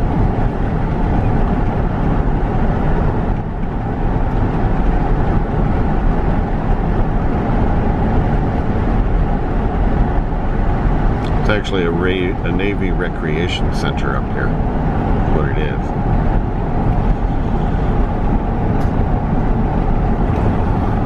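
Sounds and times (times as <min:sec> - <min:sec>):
car engine and tyre road noise: 0:00.0 - 0:21.0.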